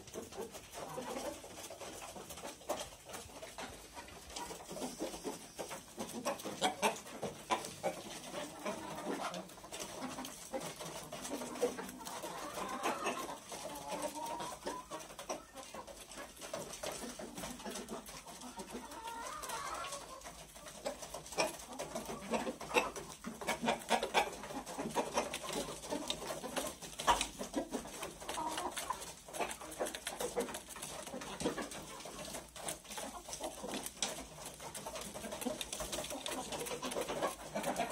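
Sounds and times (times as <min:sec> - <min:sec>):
beaks pecking grain: 0:00.0 - 0:37.9
chickens clucking: 0:00.0 - 0:37.9.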